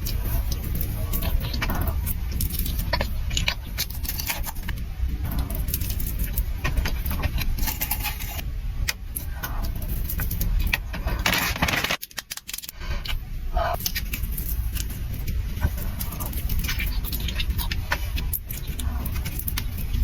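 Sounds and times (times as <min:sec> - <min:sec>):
low rumble: 0:00.0 - 0:11.7, 0:12.7 - 0:20.0
chewing with crackles: 0:00.0 - 0:20.0.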